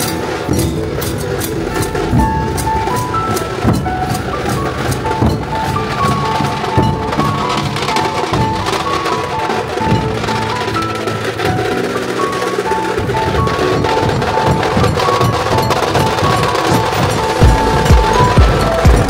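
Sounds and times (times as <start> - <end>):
barrel drums beaten with sticks: 0.0 - 19.0
melody of held notes: 0.0 - 19.0
sharp cracking drum strokes: 0.0 - 19.0.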